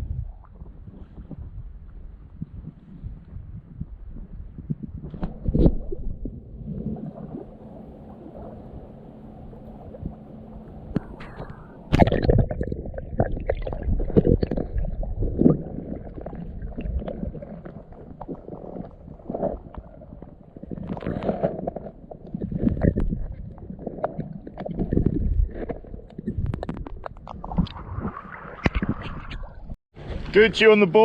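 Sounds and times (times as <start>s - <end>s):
low rumble: 0.0s - 30.4s.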